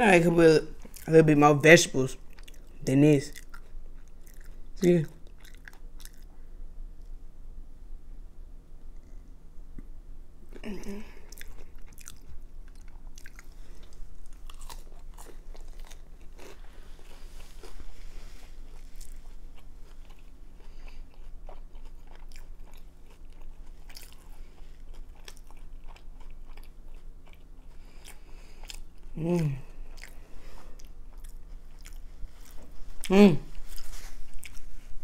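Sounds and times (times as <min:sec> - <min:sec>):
person chewing: 0:00.7 - 0:01.4, 0:02.2 - 0:06.4, 0:10.5 - 0:35.0.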